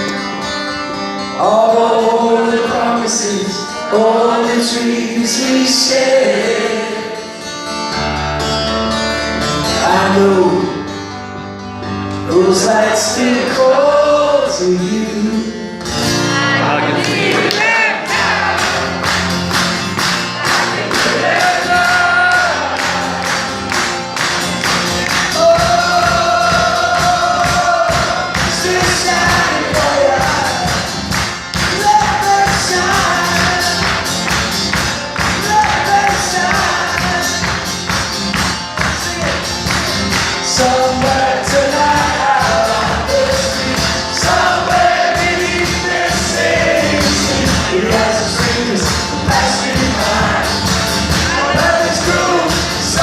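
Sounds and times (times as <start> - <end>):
guitar strumming: 0.0 - 53.0
held melody line: 8.5 - 53.0.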